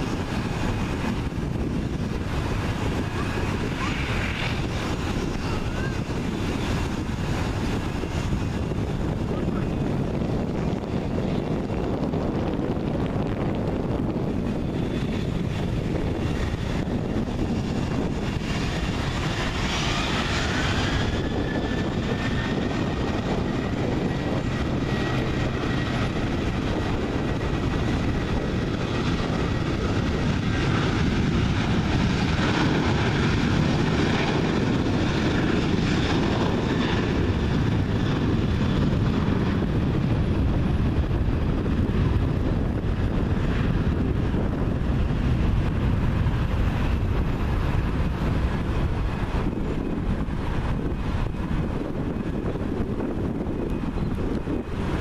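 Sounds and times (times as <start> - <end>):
jet engines rumbling and whining: 0.0 - 55.0.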